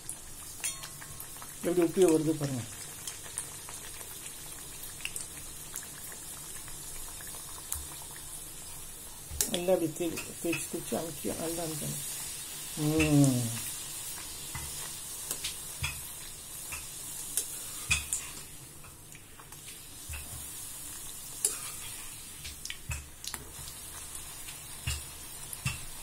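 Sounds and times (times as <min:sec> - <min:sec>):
dough frying in hot oil: 0:00.0 - 0:26.0.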